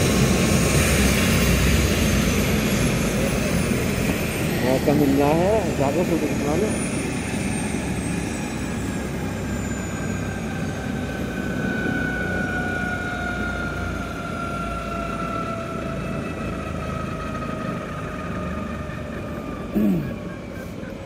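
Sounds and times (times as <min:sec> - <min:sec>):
helicopter running: 0:00.0 - 0:21.0
high turbine whine: 0:00.0 - 0:21.0.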